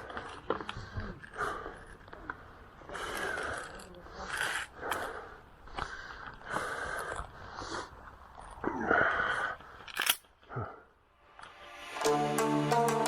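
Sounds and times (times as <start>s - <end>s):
person breathing hard: 0.0s - 11.0s.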